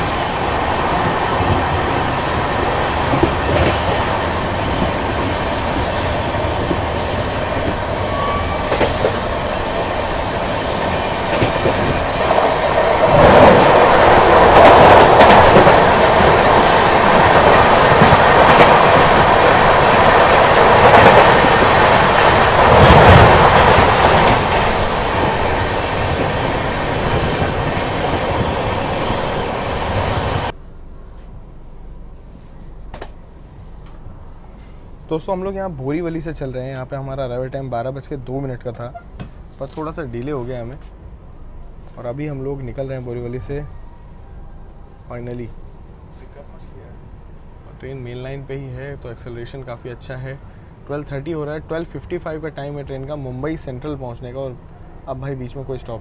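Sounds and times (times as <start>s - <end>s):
passing train: 0.0s - 30.6s, 31.2s - 56.0s
train wheels rumbling on track: 0.0s - 30.6s, 31.2s - 56.0s.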